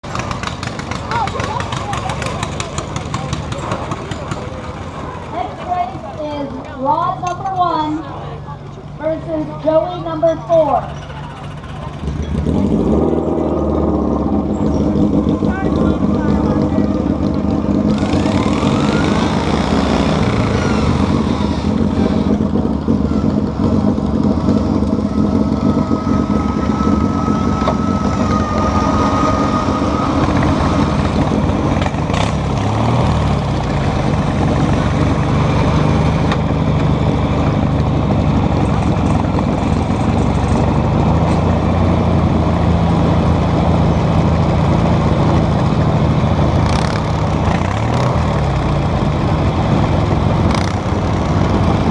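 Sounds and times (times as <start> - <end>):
tractor engines running loud: 0.0 - 51.9.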